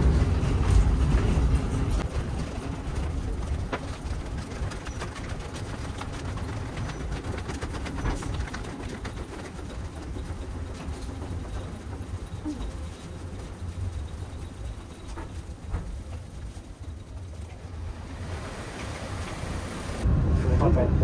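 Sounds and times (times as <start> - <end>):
vehicle rumbling in motion: 0.0 - 21.0.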